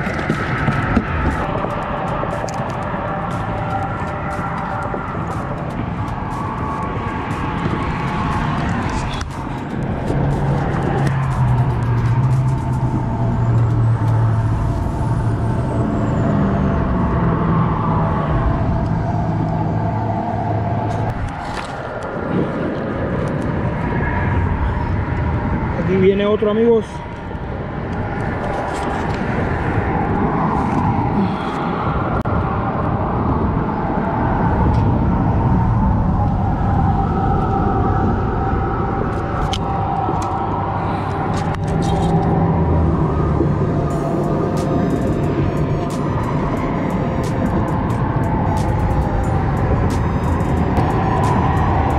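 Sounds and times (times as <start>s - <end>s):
low outdoor rumble: 0.0s - 51.9s
road traffic passing: 0.0s - 51.9s.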